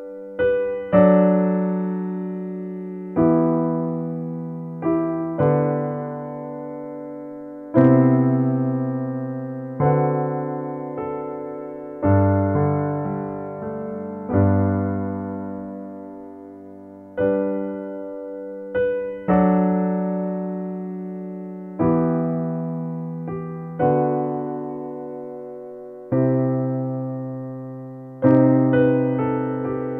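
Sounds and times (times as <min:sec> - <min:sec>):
slow piano chords: 0:00.0 - 0:29.9.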